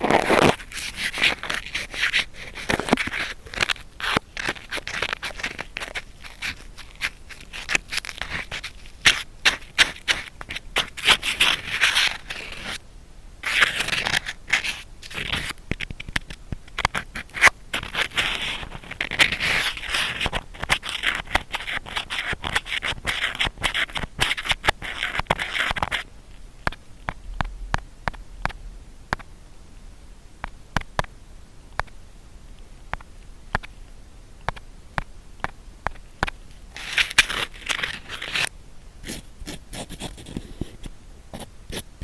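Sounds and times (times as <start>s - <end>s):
scratchy scraping and rubbing: 0.0s - 12.8s, 13.4s - 28.6s, 36.2s - 42.0s.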